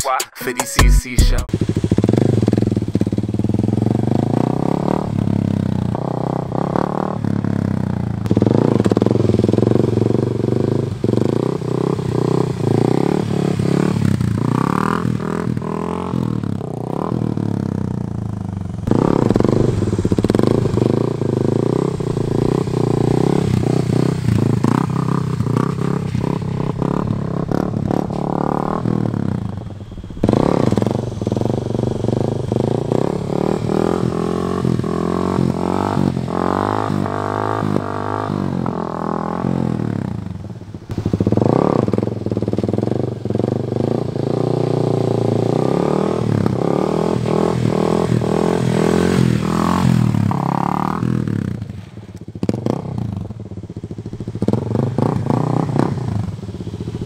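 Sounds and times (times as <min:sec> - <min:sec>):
dirt bike engine revving: 0:01.5 - 0:39.9, 0:43.8 - 0:51.4.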